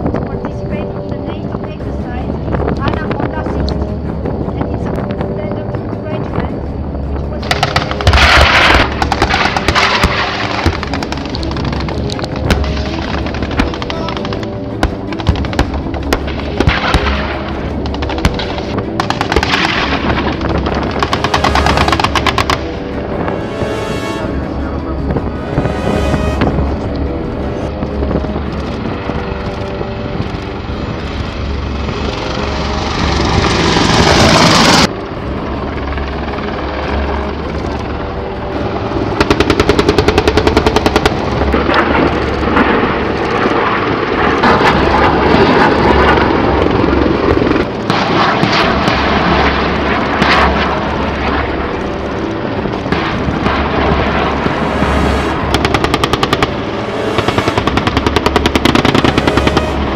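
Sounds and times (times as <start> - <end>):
helicopter rotors droning: 0.0 - 59.9
rush of noise: 0.0 - 59.9.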